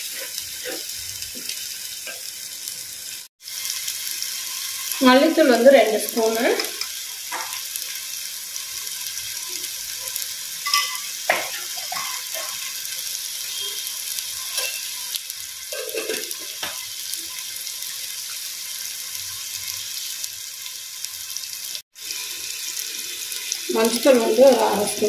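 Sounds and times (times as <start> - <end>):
sauce sizzling in a pot: 0.0 - 25.0.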